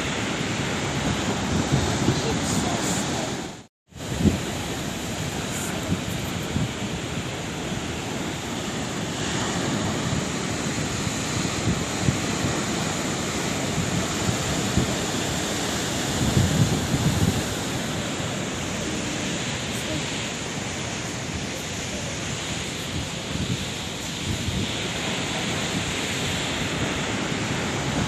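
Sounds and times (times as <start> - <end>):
sea waves breaking: 0.0 - 28.0.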